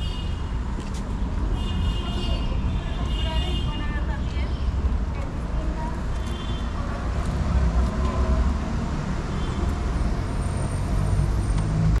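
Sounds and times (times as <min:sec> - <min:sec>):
street ambience low rumble: 0:00.0 - 0:12.0.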